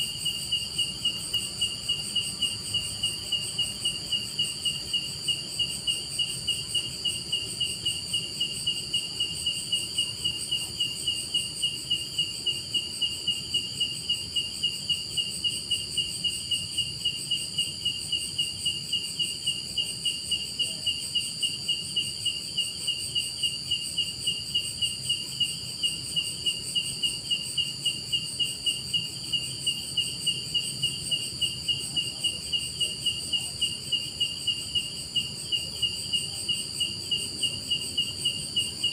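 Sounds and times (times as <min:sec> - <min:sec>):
high-pitched insect trill: 0:00.0 - 0:38.9
insects chirping: 0:00.0 - 0:38.9.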